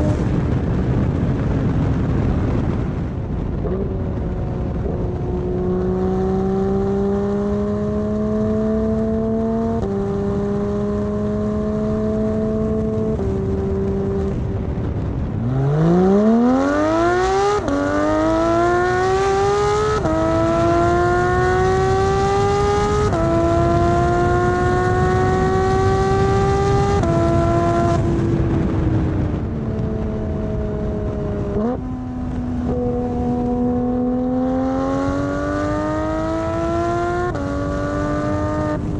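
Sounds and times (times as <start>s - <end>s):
sports car engine accelerating: 0.0s - 0.8s, 2.6s - 38.9s.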